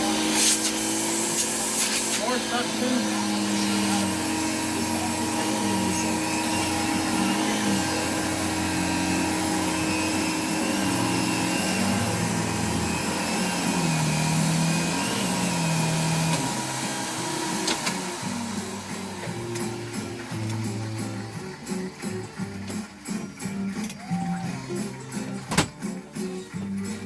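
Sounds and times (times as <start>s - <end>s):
vacuum cleaner humming: 0.0s - 27.0s.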